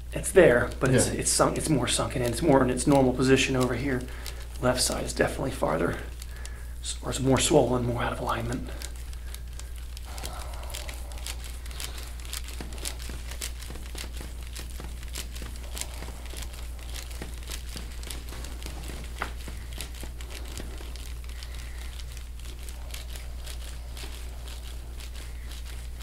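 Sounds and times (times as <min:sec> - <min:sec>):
steady low hum: 0:00.0 - 0:26.0
muscle crackling and clicking: 0:00.2 - 0:26.0.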